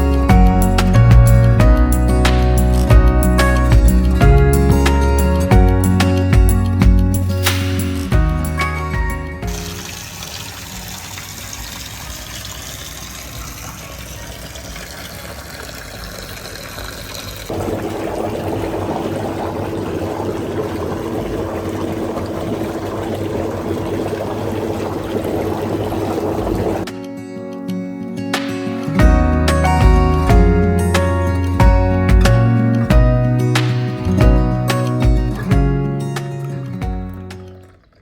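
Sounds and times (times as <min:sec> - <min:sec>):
water running: 0:00.0 - 0:26.9, 0:28.6 - 0:38.0.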